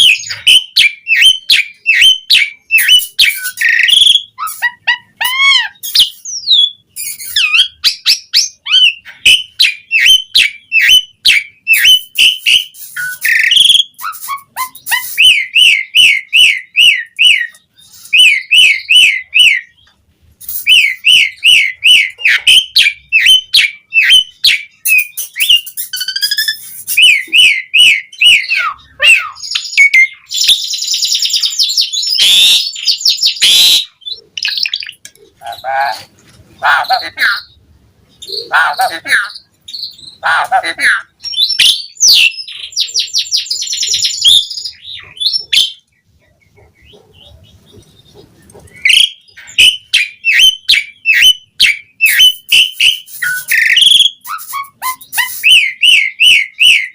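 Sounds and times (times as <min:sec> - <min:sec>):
bird harsh chatter: 0:00.0 - 0:19.8, 0:20.4 - 0:37.6, 0:38.2 - 0:56.9
starling whistling song: 0:00.0 - 0:36.1, 0:40.8 - 0:45.9, 0:46.8 - 0:56.9.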